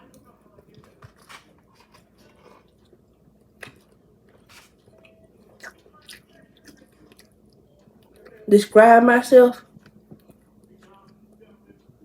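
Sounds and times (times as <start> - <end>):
chewing seafood: 0.1 - 8.5, 9.7 - 12.0.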